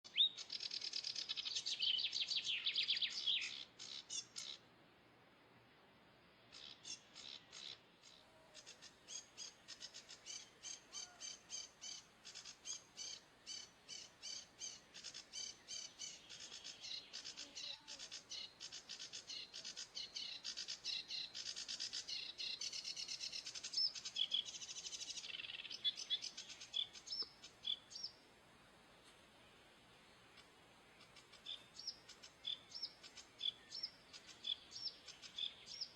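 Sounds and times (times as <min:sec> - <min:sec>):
songbirds chirping: 0:00.0 - 0:35.9.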